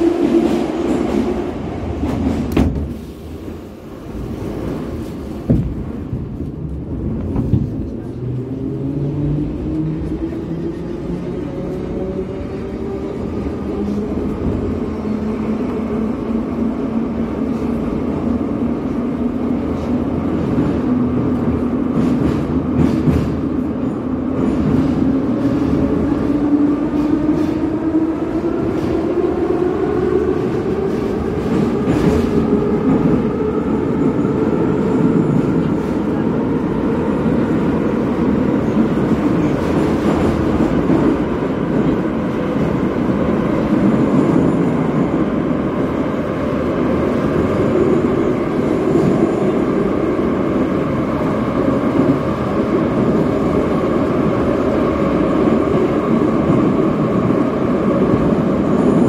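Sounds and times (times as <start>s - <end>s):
wheel and rail rumble: 0.0s - 59.0s.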